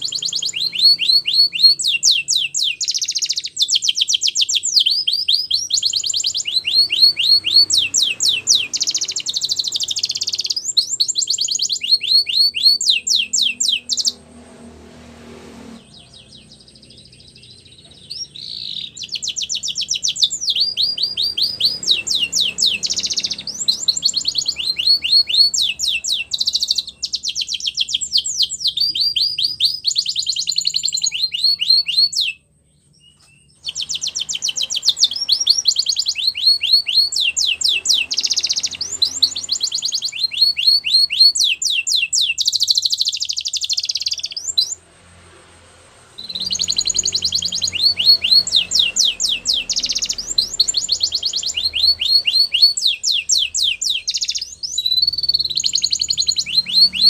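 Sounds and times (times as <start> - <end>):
canary singing trills: 0.0 - 14.9, 15.5 - 57.0.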